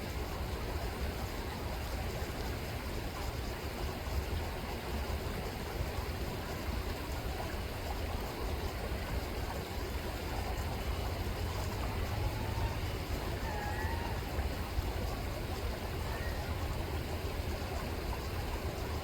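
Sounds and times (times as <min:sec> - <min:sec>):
river water rushing: 0:00.1 - 0:19.0.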